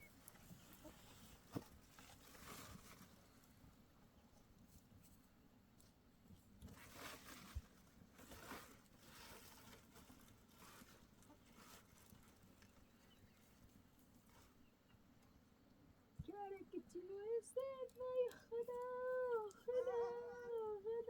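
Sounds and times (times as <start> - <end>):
faint rustling: 0.0 - 21.0.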